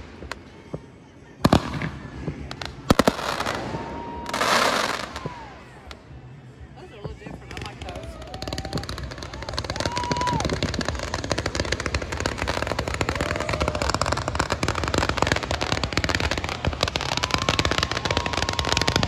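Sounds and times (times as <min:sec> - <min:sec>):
firework whistling tones: 0:00.0 - 0:19.0
fireworks crackling and banging: 0:00.0 - 0:19.0.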